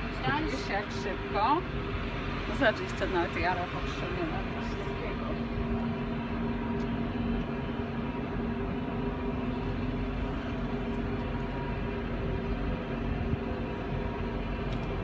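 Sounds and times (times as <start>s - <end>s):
cable machinery hum and rumble: 0.0s - 15.0s.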